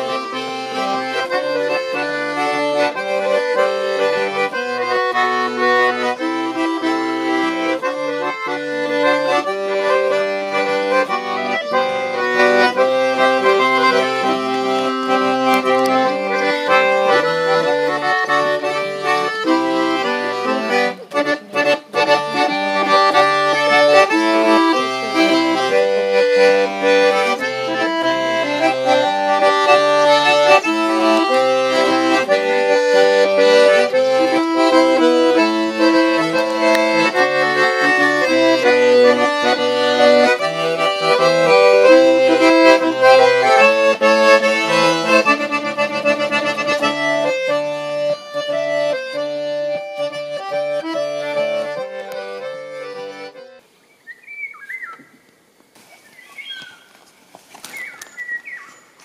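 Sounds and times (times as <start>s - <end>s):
accordion playing a tune: 0.0s - 53.8s.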